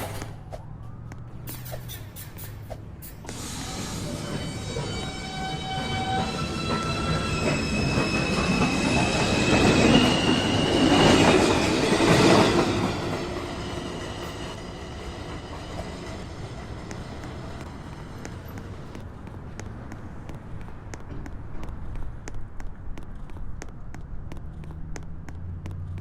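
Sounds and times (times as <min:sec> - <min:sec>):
subway train motors whining: 0:00.0 - 0:21.6
rumble of train wheels: 0:00.0 - 0:26.0.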